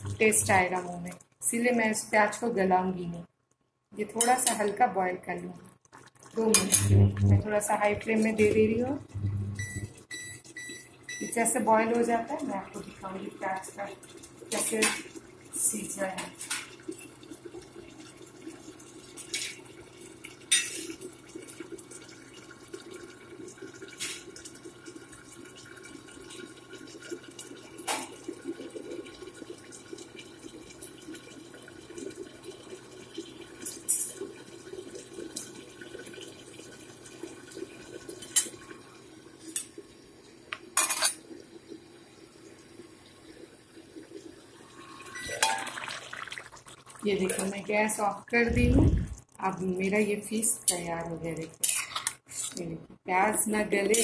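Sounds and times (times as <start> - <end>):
curry bubbling under lid: 5.6 - 52.6.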